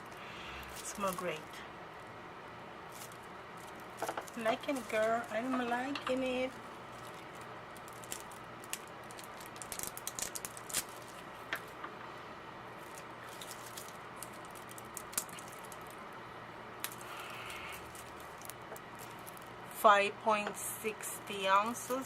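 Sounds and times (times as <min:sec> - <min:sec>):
steady low hiss: 0:00.0 - 0:22.0.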